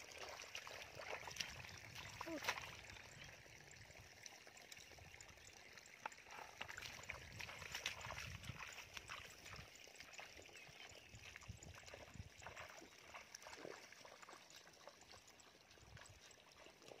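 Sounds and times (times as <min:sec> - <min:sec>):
footsteps splashing through mud: 0:00.0 - 0:03.1, 0:06.0 - 0:17.0.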